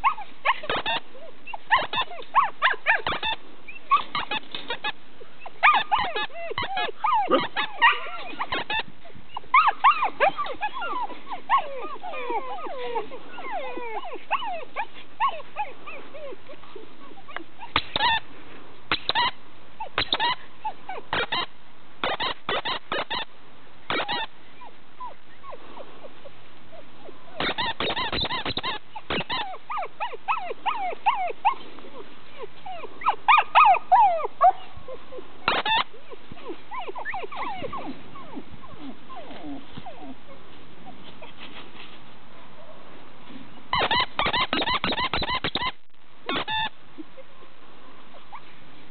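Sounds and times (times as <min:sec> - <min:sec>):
huskies whining and yipping: 0:00.0 - 0:18.2, 0:18.9 - 0:23.3, 0:23.9 - 0:42.9, 0:43.7 - 0:47.4, 0:48.0 - 0:48.6.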